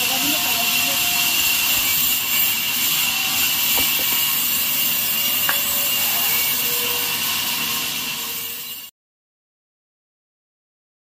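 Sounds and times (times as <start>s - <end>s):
band saw cutting log: 0.0s - 8.9s.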